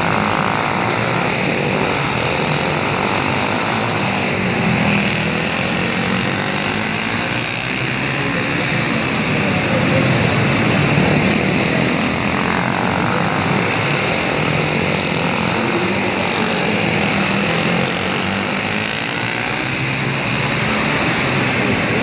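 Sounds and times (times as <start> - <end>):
racing kart engines: 0.0 - 22.0.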